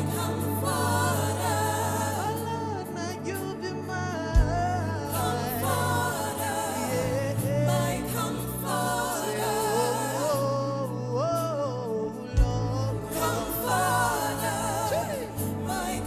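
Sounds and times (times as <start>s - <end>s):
gospel band music with singing: 0.0s - 16.0s.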